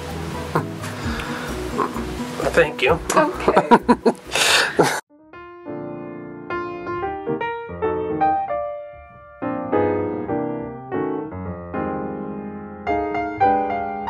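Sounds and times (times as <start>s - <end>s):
piano music: 0.0s - 4.5s, 5.1s - 14.0s.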